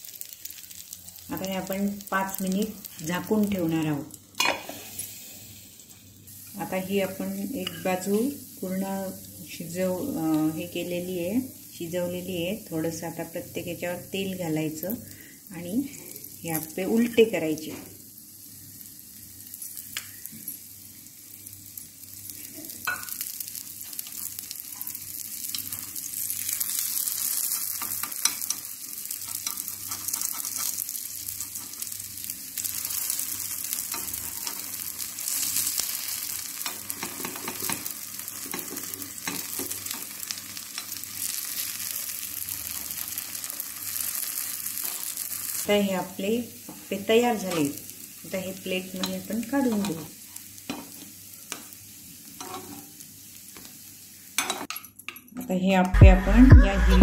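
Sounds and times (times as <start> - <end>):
dumplings sizzling in oil: 0.0 - 54.7.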